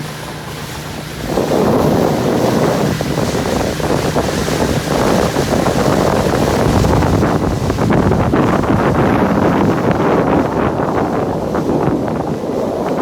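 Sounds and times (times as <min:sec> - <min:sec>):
water rushing past boat: 0:00.0 - 0:13.0
wind buffeting microphone: 0:00.0 - 0:13.0.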